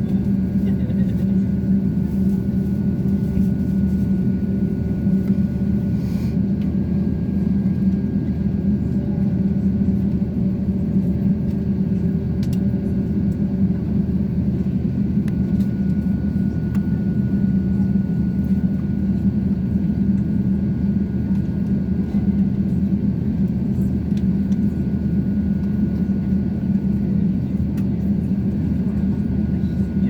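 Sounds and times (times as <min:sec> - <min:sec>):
airplane cabin engine drone: 0:00.0 - 0:30.0.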